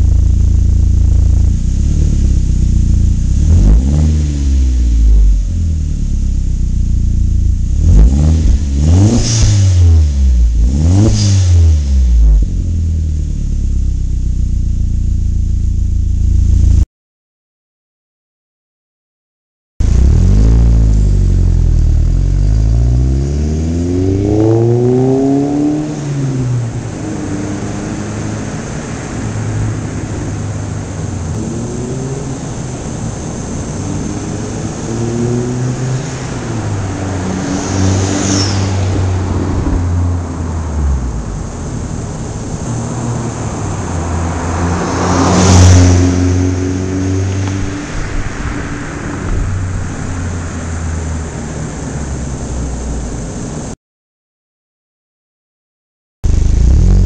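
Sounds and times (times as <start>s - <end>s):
car engine accelerating: 0.0s - 16.8s, 19.8s - 53.8s, 56.2s - 57.0s.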